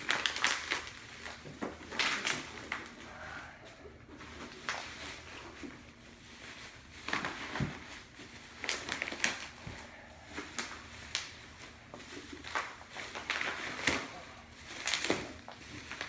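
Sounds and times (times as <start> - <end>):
package wrapping crinkling: 0.0 - 3.2, 4.2 - 16.0.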